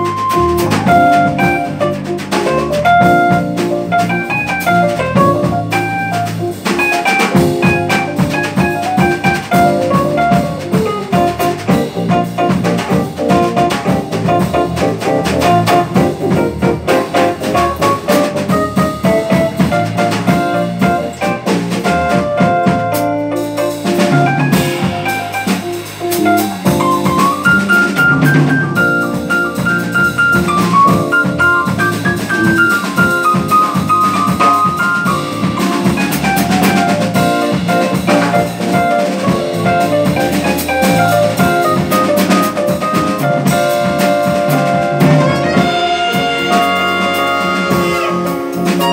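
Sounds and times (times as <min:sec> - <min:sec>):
drum kit: 0:00.0 - 0:48.9
electric bass: 0:00.0 - 0:48.9
piano: 0:00.0 - 0:48.9
wind instrument melody: 0:00.0 - 0:48.9.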